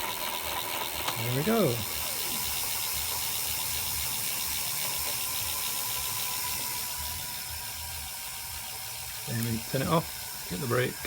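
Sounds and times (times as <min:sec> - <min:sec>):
electric hub motor whining: 0:00.0 - 0:11.0.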